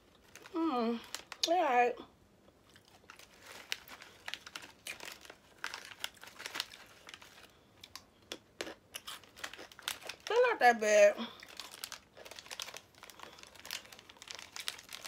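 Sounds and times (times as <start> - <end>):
snack packet crinkling: 0.0 - 1.6, 2.6 - 10.5, 11.3 - 15.0.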